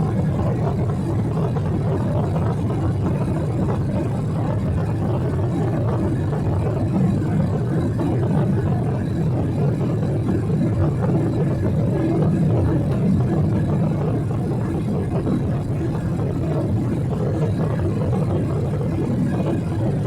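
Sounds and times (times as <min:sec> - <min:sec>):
airplane cabin engine drone: 0:00.0 - 0:20.0
faint steady hum: 0:00.0 - 0:20.0.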